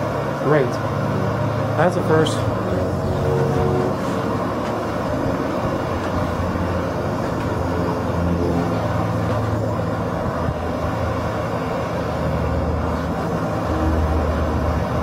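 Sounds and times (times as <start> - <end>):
gas stove burning: 0.0 - 15.0.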